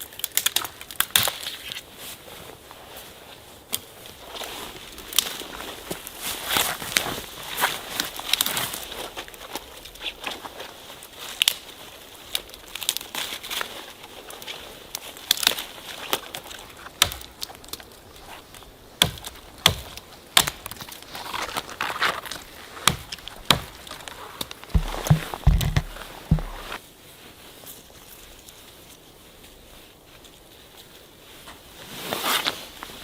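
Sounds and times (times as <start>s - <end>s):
dry twigs and leaves crackling: 0.0s - 30.9s.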